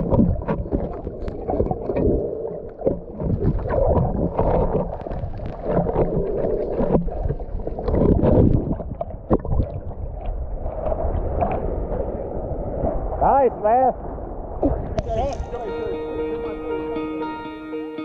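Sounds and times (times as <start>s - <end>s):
water sloshing and gurgling: 0.0s - 15.7s.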